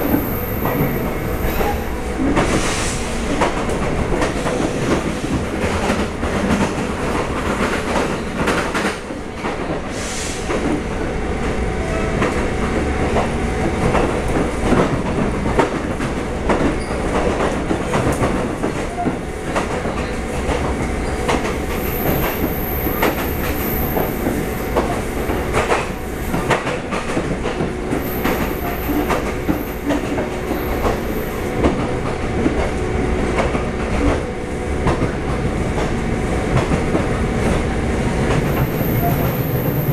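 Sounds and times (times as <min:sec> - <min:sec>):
train rumble and hum: 0:00.0 - 0:39.9.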